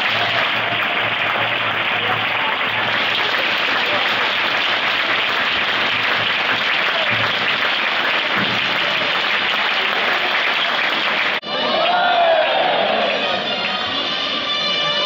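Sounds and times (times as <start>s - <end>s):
crowd applauding: 0.0s - 14.2s.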